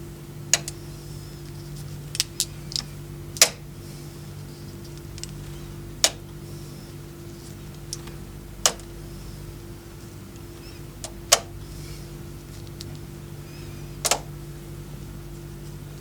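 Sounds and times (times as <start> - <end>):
conveyor motor humming: 0.0 - 16.0.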